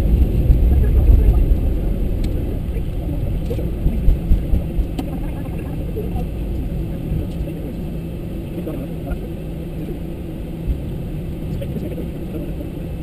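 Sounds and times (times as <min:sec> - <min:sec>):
aircraft cockpit low rumble: 0:00.0 - 0:13.0.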